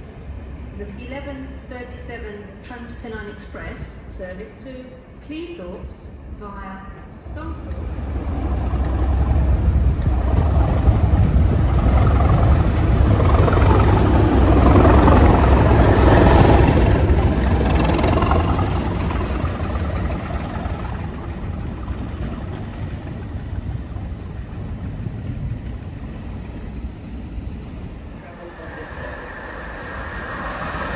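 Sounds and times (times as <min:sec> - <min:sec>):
train passing at speed: 0:05.0 - 0:30.9.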